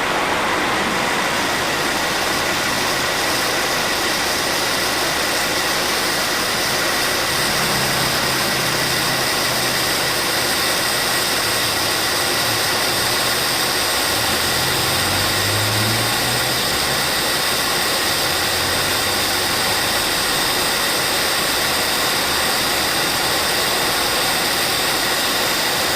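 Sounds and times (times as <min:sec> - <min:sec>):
ac compressor whine: 0:00.0 - 0:25.9
car engine idling: 0:00.0 - 0:25.9.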